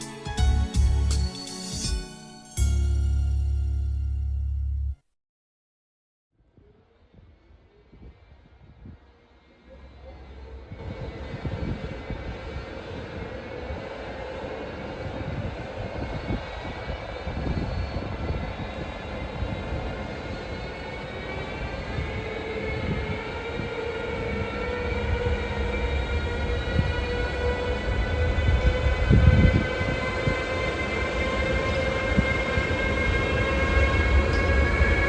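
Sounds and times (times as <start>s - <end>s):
electric locomotive whining: 0.0s - 4.1s, 9.8s - 35.0s.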